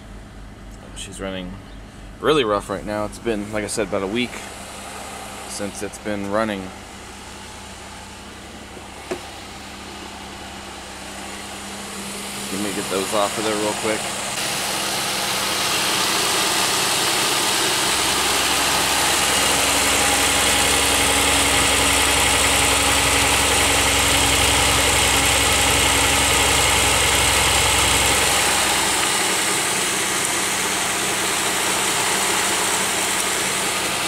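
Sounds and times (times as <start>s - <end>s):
car engine idling rough: 0.0s - 34.0s.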